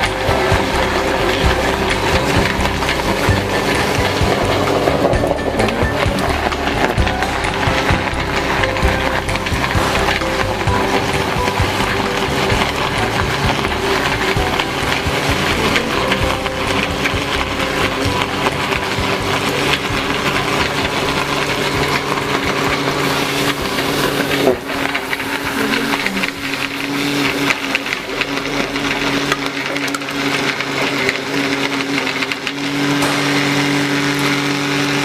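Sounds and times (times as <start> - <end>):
electric pump motor humming: 0.0 - 35.0.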